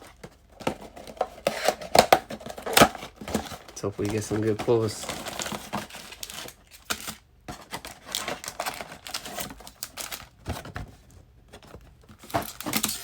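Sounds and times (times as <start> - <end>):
foil wrappers crinkling: 0.0 - 13.0.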